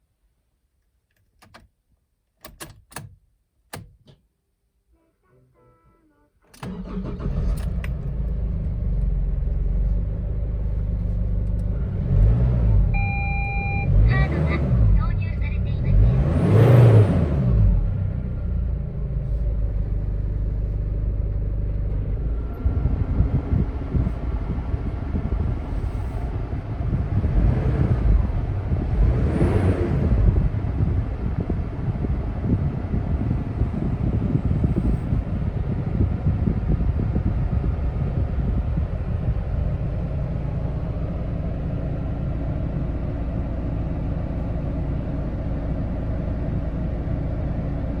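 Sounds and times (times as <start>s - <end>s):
van engine revving and idling: 6.8s - 48.0s.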